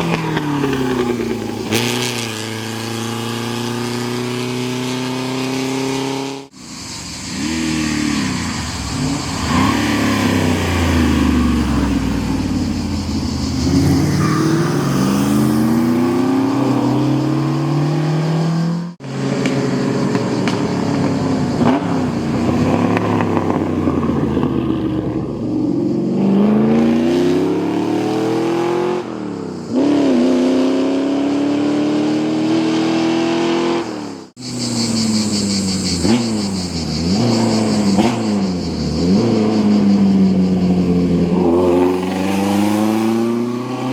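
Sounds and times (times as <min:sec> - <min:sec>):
racing car engines accelerating: 0:07.2 - 0:43.9.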